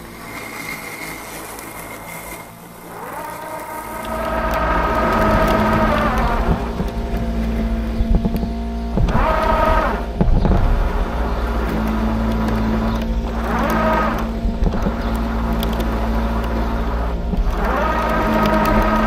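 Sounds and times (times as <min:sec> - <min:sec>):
low mower rumble: 0:00.0 - 0:19.0
robotic mower motors whining: 0:00.0 - 0:19.0.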